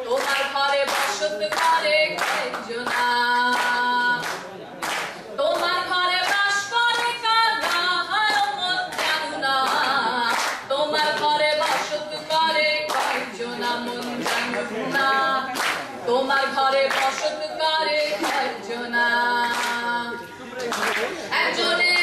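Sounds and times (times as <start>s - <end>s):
woman singing folk song: 0.0s - 4.2s, 5.4s - 15.5s, 16.1s - 20.2s
hands clapping: 0.0s - 15.9s, 16.8s - 18.6s, 19.4s - 21.2s.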